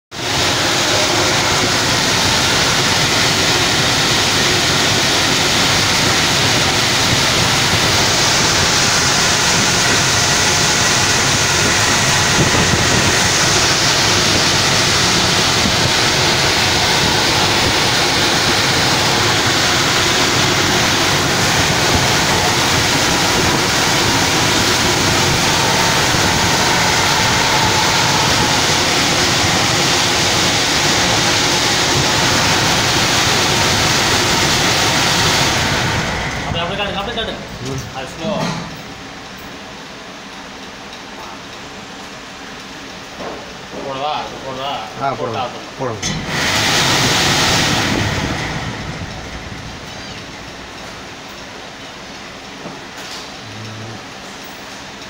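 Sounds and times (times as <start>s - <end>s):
air blower running: 0.1s - 39.8s, 42.3s - 55.0s.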